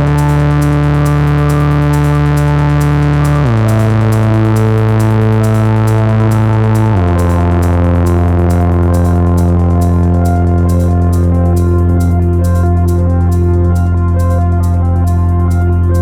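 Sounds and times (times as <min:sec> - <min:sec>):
buzzy synthesizer drone: 0:00.0 - 0:16.0.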